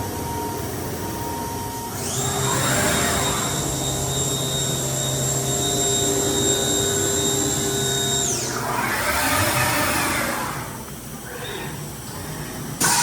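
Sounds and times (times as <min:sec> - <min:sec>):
router spindle whine: 0:00.1 - 0:10.9.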